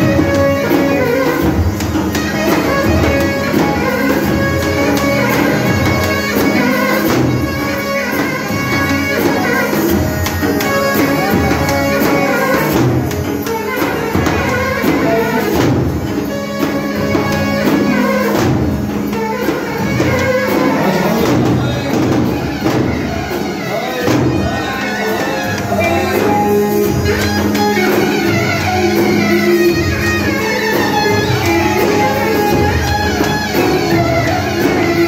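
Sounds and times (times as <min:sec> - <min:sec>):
folk dance melody: 0:00.0 - 0:35.0
percussion striking: 0:00.0 - 0:35.0.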